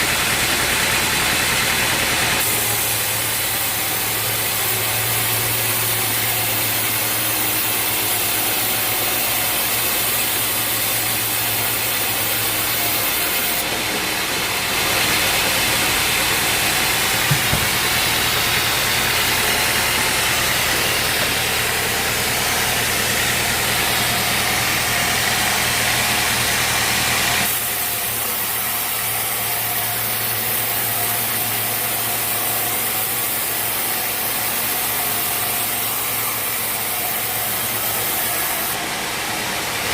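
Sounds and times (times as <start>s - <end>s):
sawmill engine running: 0.0s - 39.9s
loud high-pitched noise: 2.1s - 39.9s.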